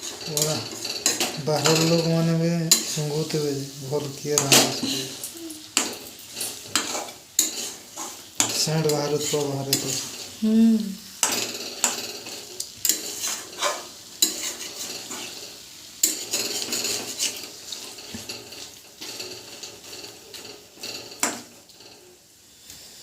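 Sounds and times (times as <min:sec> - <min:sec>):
spoon scraping and clinking on pan: 0:00.0 - 0:10.4, 0:11.1 - 0:22.1
food sizzling: 0:00.0 - 0:23.0.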